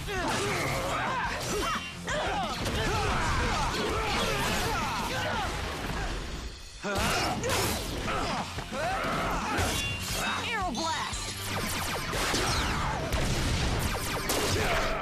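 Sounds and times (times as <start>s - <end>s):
action music: 0.0s - 15.0s.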